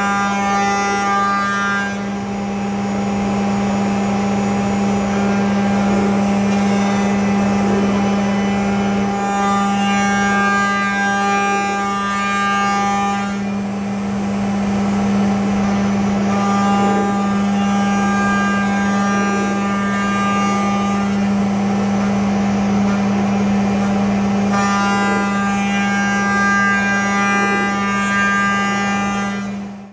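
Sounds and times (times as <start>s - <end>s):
cnc router spindle running: 0.0s - 29.9s
high whining overtones: 0.0s - 29.9s.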